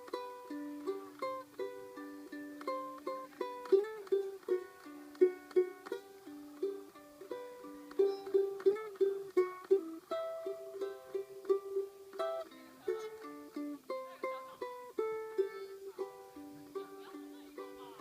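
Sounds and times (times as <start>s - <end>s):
ukulele plucked melody: 0.0s - 18.0s.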